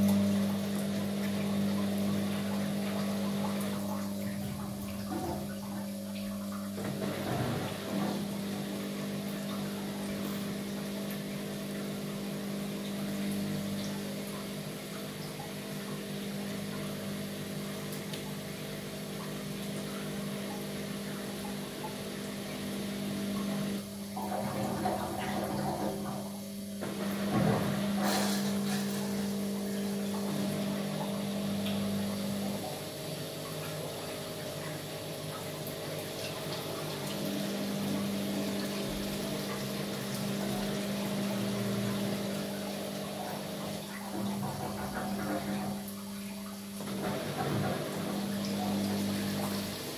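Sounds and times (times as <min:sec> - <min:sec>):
washing machine drum motor humming: 0:00.0 - 0:49.9.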